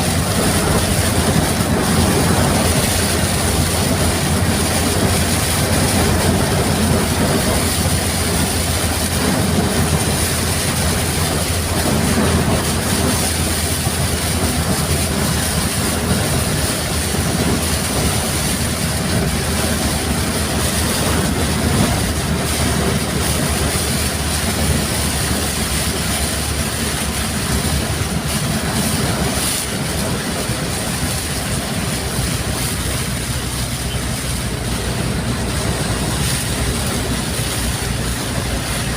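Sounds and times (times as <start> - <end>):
heavy rain: 0.0 - 38.9
strong wind: 0.0 - 38.9.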